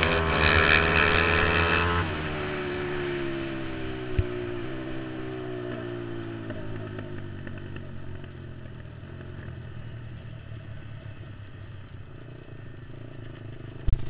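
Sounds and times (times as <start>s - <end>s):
quad engine running at low revs: 0.0s - 14.0s.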